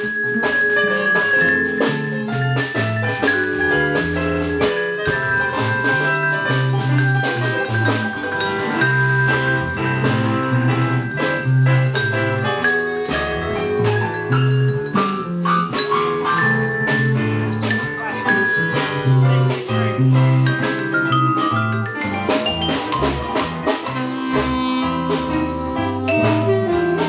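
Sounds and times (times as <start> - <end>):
drums keeping time: 0.0 - 27.0
jazz piano: 0.0 - 27.0.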